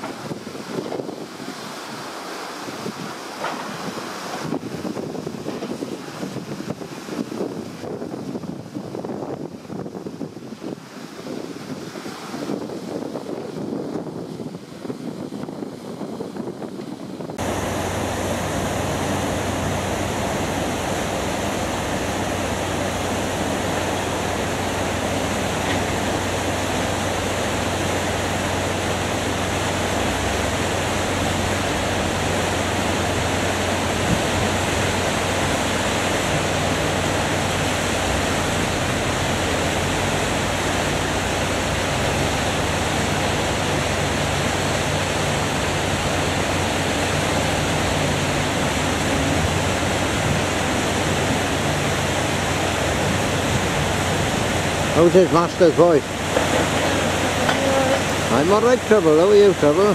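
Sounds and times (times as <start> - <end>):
river water rushing: 0.0 - 16.0, 17.1 - 59.9.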